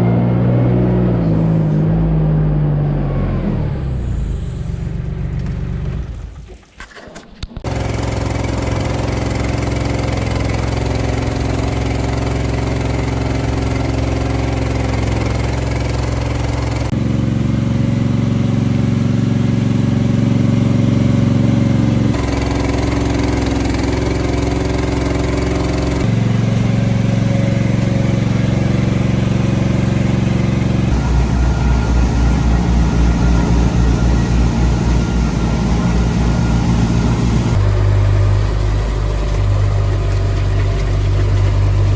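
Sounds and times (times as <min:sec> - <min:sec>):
machine engines running: 0:07.6 - 0:41.9.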